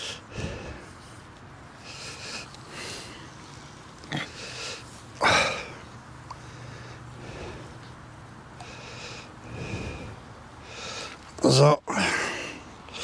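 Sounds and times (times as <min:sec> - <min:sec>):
man breathing and sniffing: 0:00.0 - 0:13.0.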